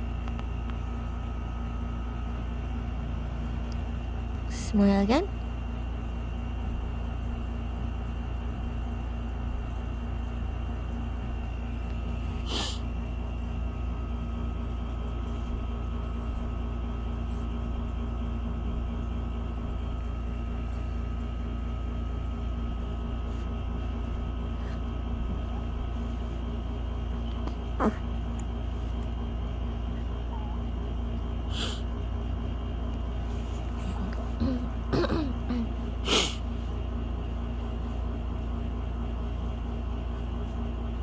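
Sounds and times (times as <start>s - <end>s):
faint constant whine: 0.0s - 41.0s
low droning hum: 6.0s - 41.0s.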